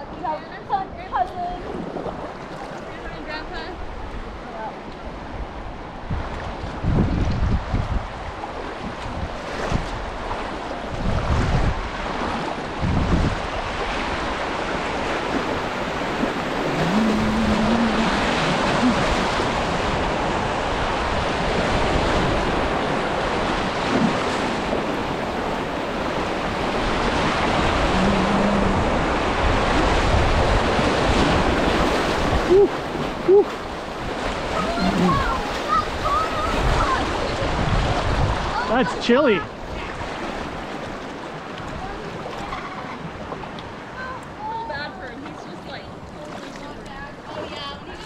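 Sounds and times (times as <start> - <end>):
creek water rushing: 0.0 - 48.0
wind buffeting microphone: 0.0 - 48.0.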